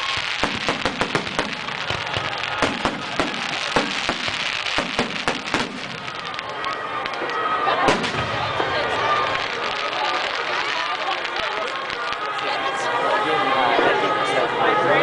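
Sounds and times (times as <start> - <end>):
firework bangs: 0.0 - 12.7.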